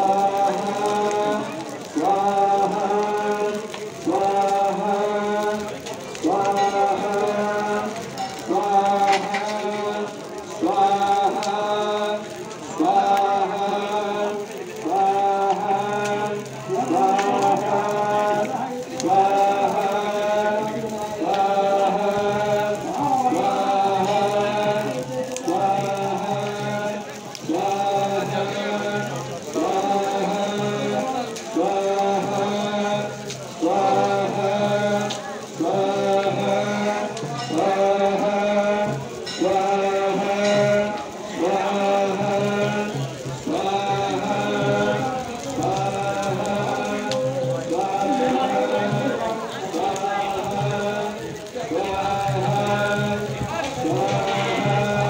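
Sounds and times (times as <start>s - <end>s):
voices chanting in held notes: 0.0s - 55.0s.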